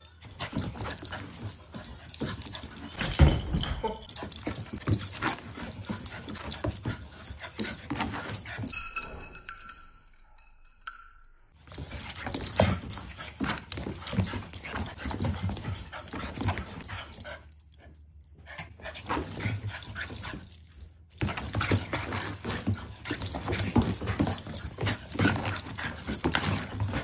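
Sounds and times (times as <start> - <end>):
scuffling and paws knocking: 0.2 - 8.8, 11.7 - 17.6, 18.6 - 27.0.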